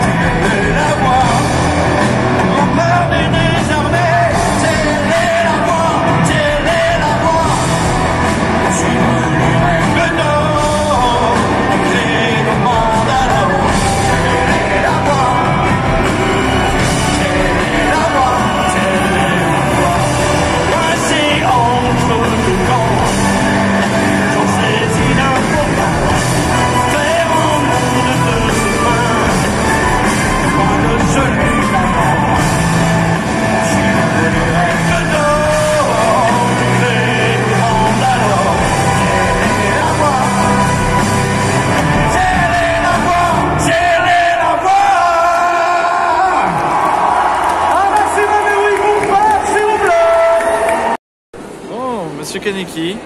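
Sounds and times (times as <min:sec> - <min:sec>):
live rock band playing: 0:00.0 - 0:45.6
person singing into a microphone: 0:00.0 - 0:46.6.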